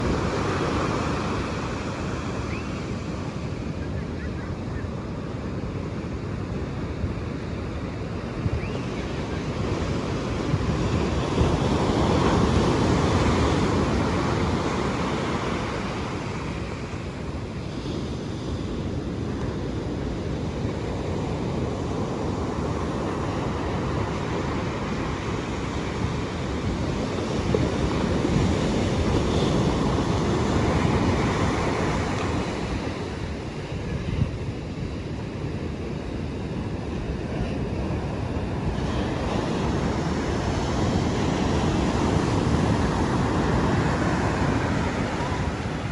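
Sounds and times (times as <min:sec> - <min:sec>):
ocean surf washing in: 0:00.0 - 0:45.9
wind on microphone: 0:00.0 - 0:45.9.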